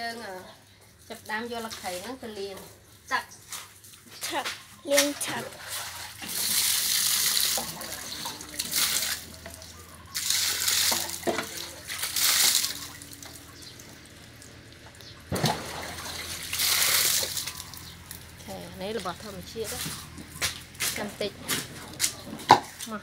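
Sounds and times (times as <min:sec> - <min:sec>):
water splashing and dripping: 0:00.0 - 0:23.0.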